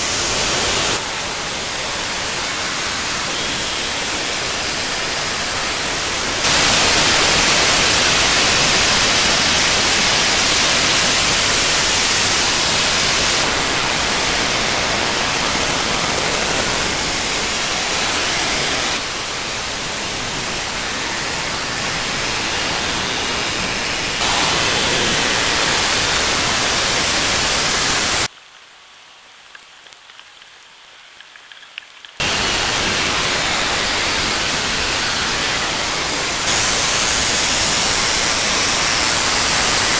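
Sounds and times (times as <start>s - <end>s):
dense steady hiss: 0.0s - 39.9s.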